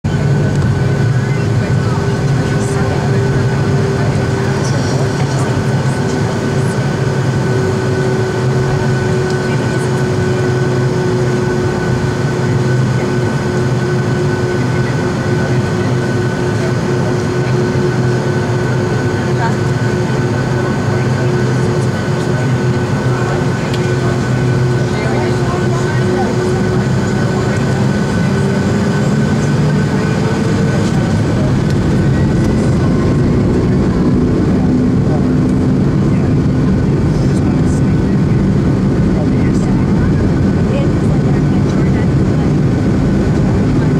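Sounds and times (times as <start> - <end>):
jet engines humming and whining: 0.0 - 43.9.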